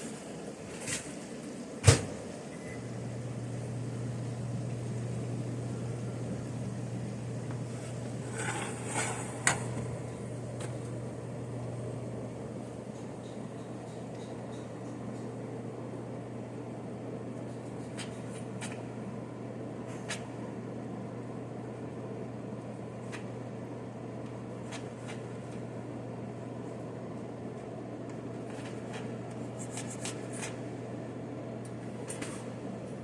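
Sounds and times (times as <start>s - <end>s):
range hood fan humming: 0.0s - 33.0s.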